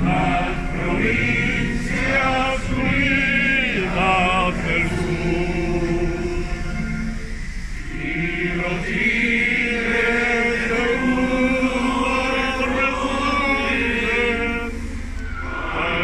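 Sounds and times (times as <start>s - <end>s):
men singing in unison: 0.0s - 7.2s, 7.8s - 16.0s.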